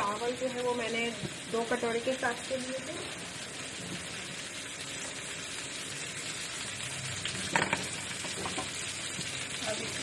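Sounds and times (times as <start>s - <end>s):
oil sizzling in a pot: 0.0s - 10.0s.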